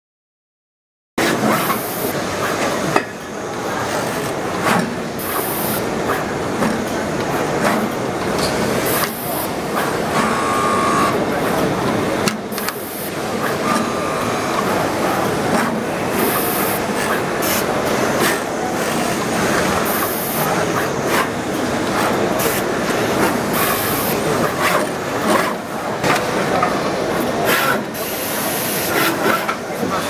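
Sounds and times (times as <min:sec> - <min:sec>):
machine and crowd din: 0:01.2 - 0:30.0.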